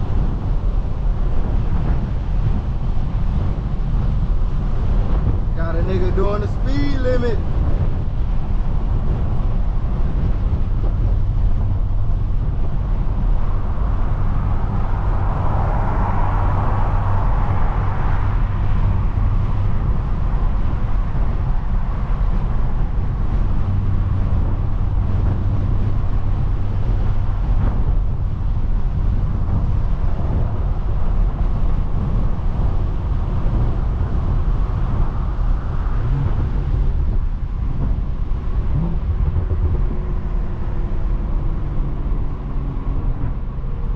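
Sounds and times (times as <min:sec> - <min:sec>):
car exhaust drone: 0:00.0 - 0:43.9
road and wind noise: 0:00.0 - 0:43.9.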